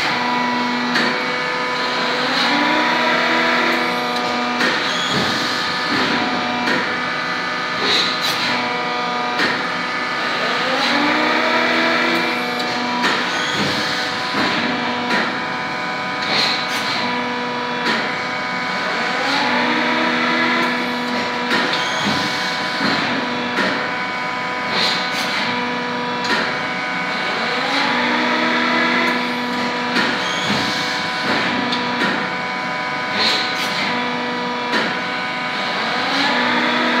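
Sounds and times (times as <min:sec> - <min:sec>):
hydraulic pump hum with whine: 0:00.0 - 0:37.0.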